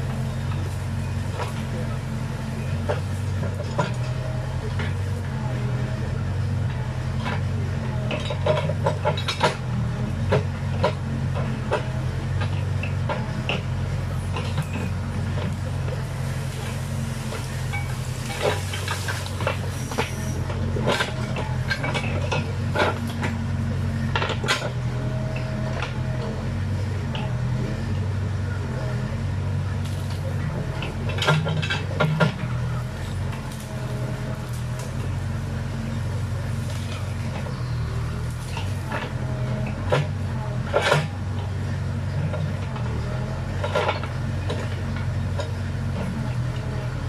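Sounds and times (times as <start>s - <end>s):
backhoe diesel engine running: 0.0s - 47.0s.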